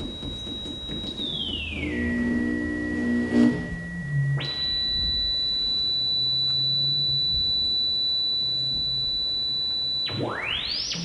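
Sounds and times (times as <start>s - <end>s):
electronic sine tone sweeping: 0.0s - 11.0s.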